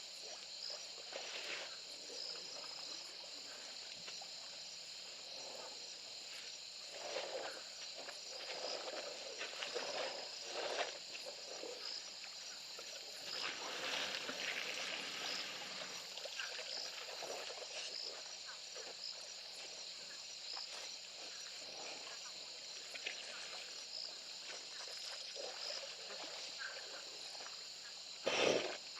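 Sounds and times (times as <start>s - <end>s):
crickets and insects chirring: 0.0s - 28.9s.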